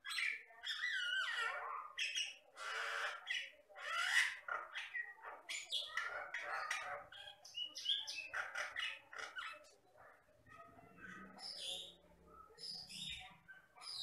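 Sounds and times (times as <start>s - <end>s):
myna bird singing: 0.0s - 14.0s.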